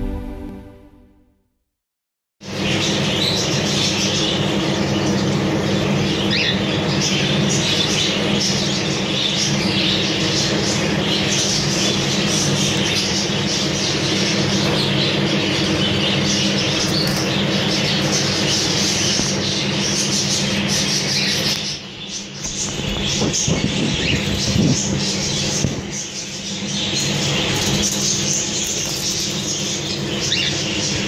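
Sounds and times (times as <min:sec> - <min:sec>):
birds chirping and squawking: 0:02.5 - 0:31.0.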